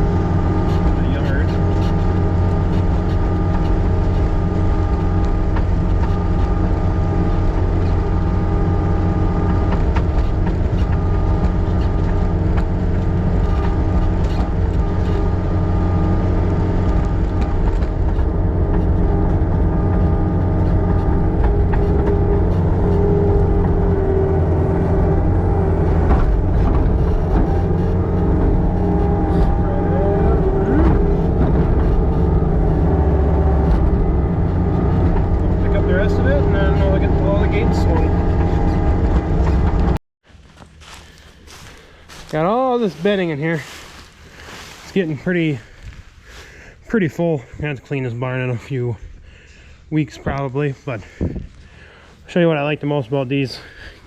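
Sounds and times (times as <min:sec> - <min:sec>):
farm machine engine running: 0:00.0 - 0:54.0.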